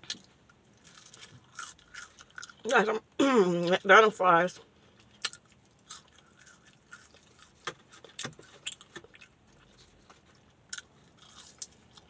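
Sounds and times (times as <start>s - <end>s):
person chewing fries: 0.0s - 2.6s, 5.0s - 12.0s.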